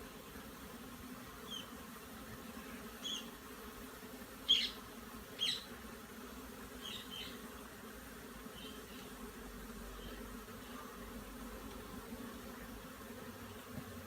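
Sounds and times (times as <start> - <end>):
bee swarm humming: 0.0 - 14.0.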